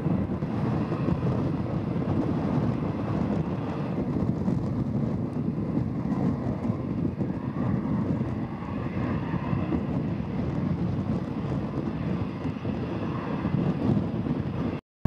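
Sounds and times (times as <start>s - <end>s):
jet airliner engines roaring: 0.0s - 14.8s
wind buffeting microphone: 0.0s - 14.8s.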